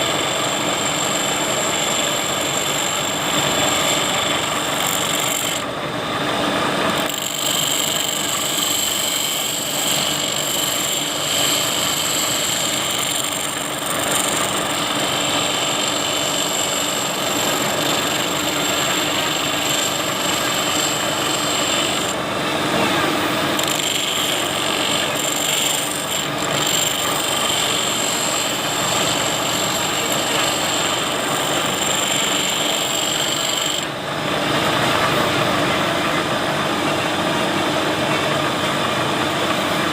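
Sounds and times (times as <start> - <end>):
power tool high whine: 0.0 - 39.9.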